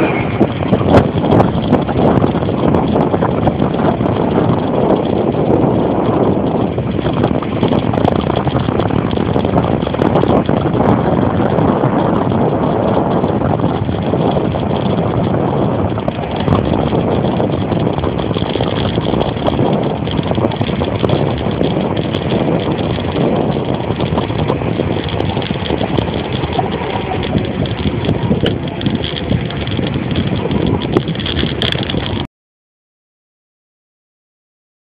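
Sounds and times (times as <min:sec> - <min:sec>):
bicycle tyres rolling on asphalt: 0:00.0 - 0:32.3
wind buffeting microphone: 0:00.0 - 0:32.3.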